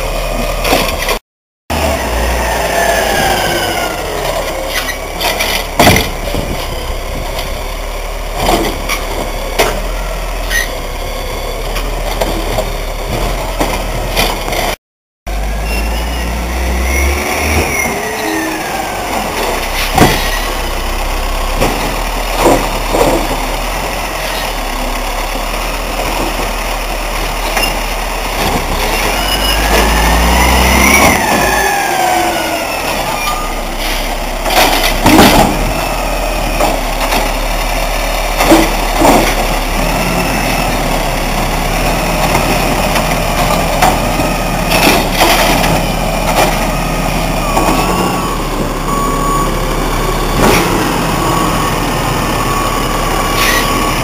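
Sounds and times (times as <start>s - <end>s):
diesel engine revving: 0.0s - 54.0s.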